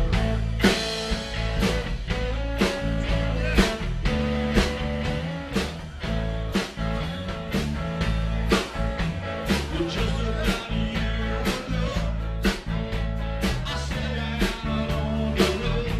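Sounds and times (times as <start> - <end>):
drum kit beat: 0.0 - 15.9
live rock band playing: 0.0 - 15.9.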